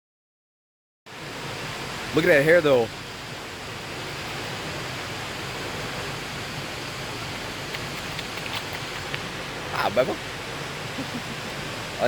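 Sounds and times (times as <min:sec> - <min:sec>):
waterfall roaring: 0:01.1 - 0:12.0.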